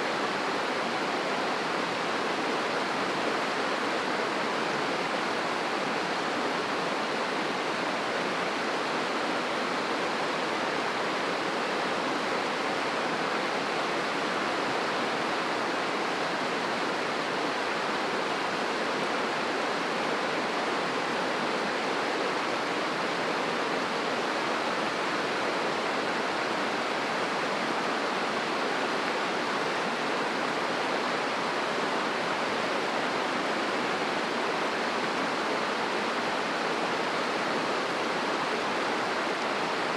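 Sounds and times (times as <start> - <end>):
river rushing: 0.3 - 39.9.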